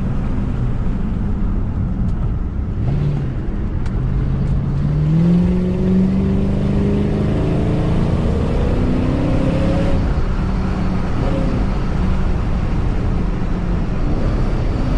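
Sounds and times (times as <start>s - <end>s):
car engine accelerating: 0.0s - 14.9s
road noise: 0.0s - 14.9s.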